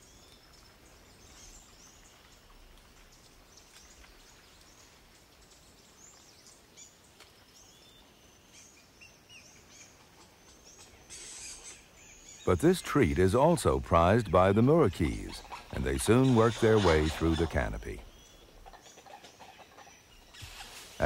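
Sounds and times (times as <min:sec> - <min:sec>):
low steady hiss: 0:00.0 - 0:21.0.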